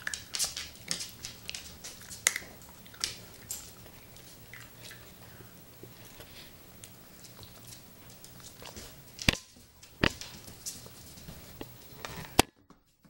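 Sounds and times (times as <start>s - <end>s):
puppy claws clicking on tile: 0.0s - 5.4s, 6.8s - 12.6s.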